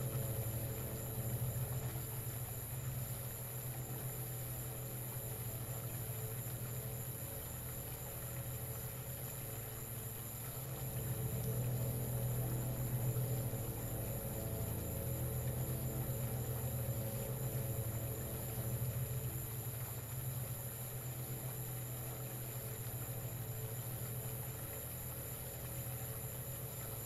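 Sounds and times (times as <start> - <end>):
low electrical buzz: 0.0 - 27.0.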